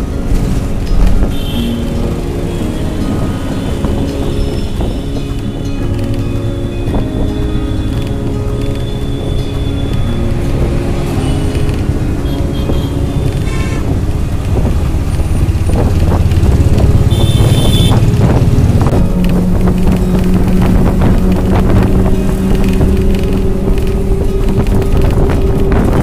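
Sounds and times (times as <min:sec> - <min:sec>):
engines and tyres rumbling: 0:00.0 - 0:26.0
steady engine hum: 0:00.0 - 0:26.0
wind: 0:00.0 - 0:26.0.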